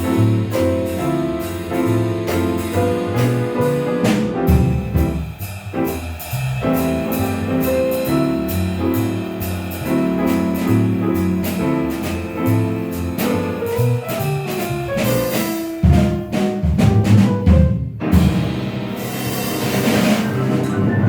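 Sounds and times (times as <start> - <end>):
bass line: 0.0 - 21.0
loud drum hits: 0.0 - 21.0
piano chords and melody: 0.0 - 21.0.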